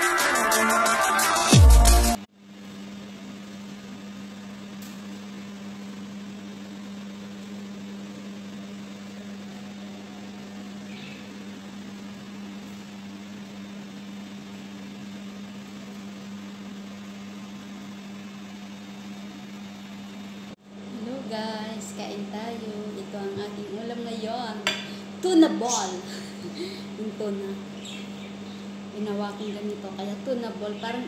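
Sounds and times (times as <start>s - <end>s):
machine humming: 3.9s - 31.0s.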